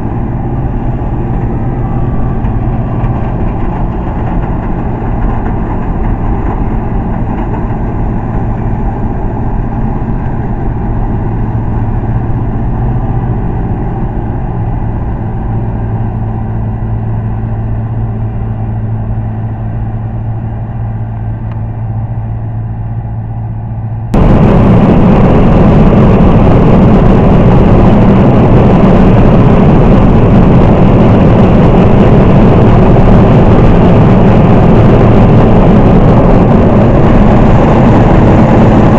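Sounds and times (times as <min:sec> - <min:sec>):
combine harvester engine hum: 0:00.0 - 0:38.9
loud rough combine din in cab: 0:00.0 - 0:38.9.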